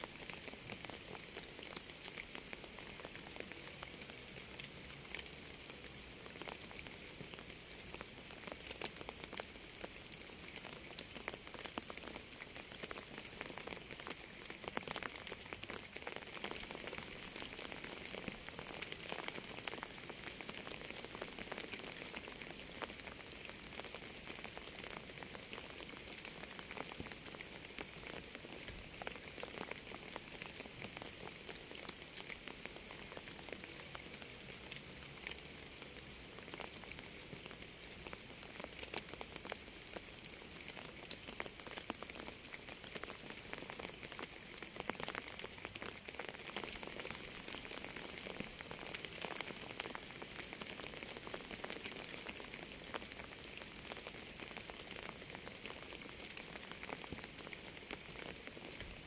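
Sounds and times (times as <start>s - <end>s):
raindrops ticking on hard surface: 0.0s - 59.0s
steady rain hissing: 0.0s - 59.0s.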